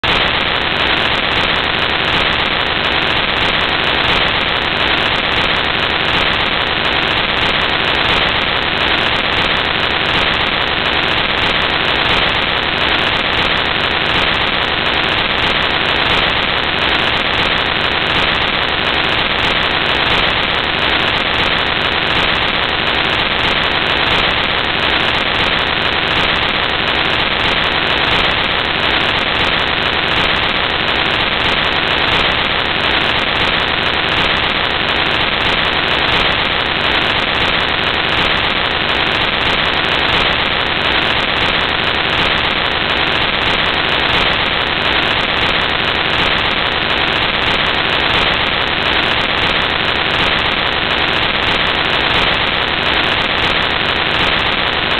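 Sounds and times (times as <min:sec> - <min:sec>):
loud static hiss: 0:00.0 - 0:54.9.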